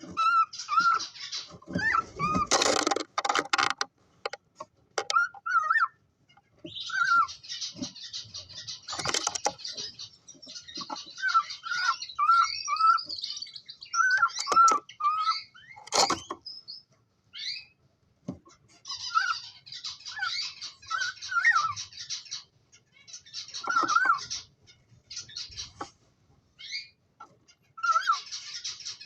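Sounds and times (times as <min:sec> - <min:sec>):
cockatiels chirping: 0:00.0 - 0:03.4, 0:05.0 - 0:17.8, 0:18.5 - 0:25.9, 0:26.6 - 0:29.0.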